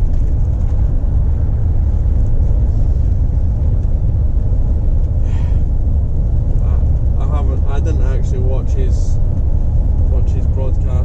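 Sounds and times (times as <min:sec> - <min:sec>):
lorry engine rumble: 0:00.0 - 0:11.0.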